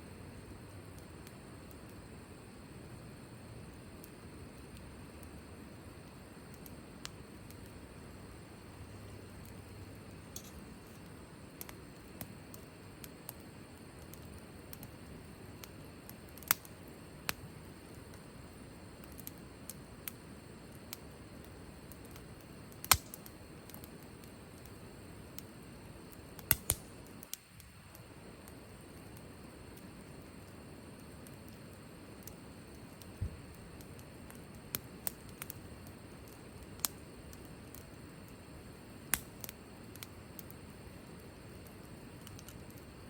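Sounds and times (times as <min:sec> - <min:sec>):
wood fire hissing: 0:00.0 - 0:43.0
fire popping: 0:00.3 - 0:43.0.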